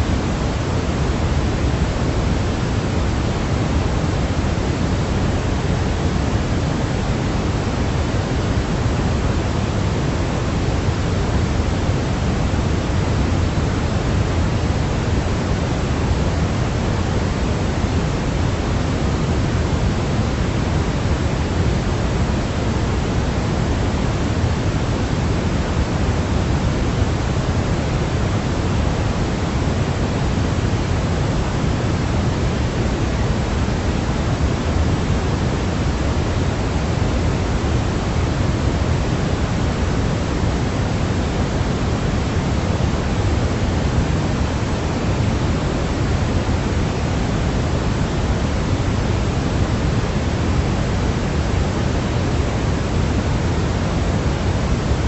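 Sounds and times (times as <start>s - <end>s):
steady pink noise: 0.0s - 55.0s.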